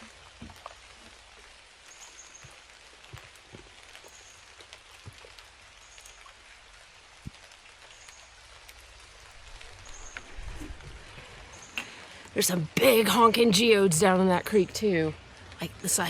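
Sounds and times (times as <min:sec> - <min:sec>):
rain falling in woodland: 0:00.0 - 0:16.0
raindrops ticking close by: 0:00.0 - 0:16.0.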